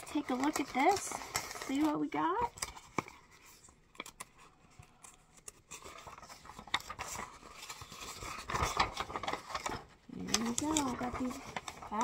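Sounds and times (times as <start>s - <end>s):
paper rustling and clicking: 0.0s - 12.0s.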